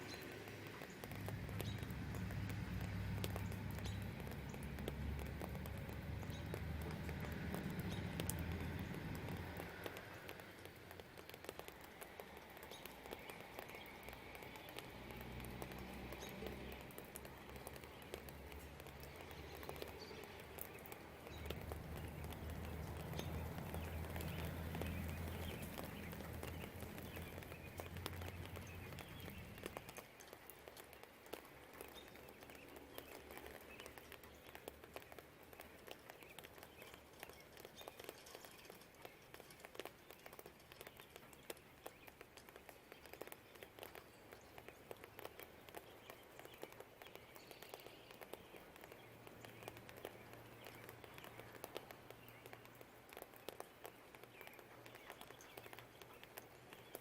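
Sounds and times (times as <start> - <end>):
faint birdsong: 0.0 - 57.0
light rain pattering: 0.0 - 57.0.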